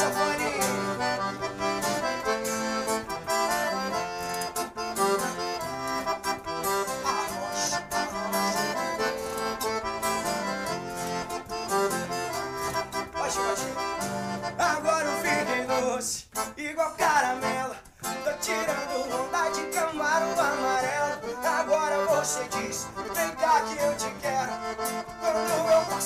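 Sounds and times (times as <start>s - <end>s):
accordion melody: 0.0s - 26.0s
strummed acoustic guitar: 0.0s - 26.0s.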